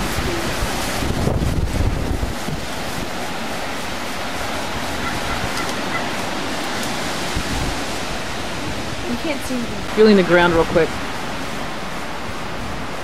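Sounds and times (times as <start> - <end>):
strong wind through trees: 0.0 - 13.0.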